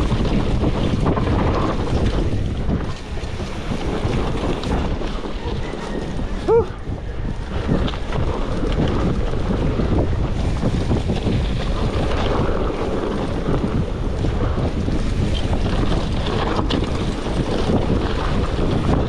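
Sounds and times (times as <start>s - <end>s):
bike rattling: 0.0s - 19.0s
tyres rumbling over loose dirt: 0.0s - 19.0s
wind buffeting microphone: 0.0s - 19.0s.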